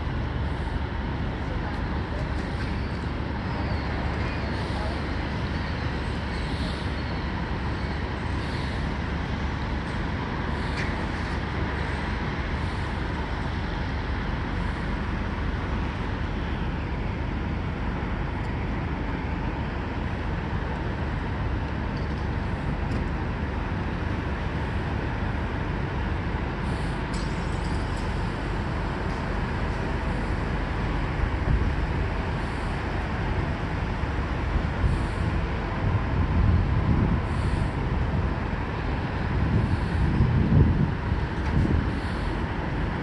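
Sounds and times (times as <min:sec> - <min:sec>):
diesel truck engines idling: 0:00.0 - 0:43.0
traffic noise: 0:00.0 - 0:43.0.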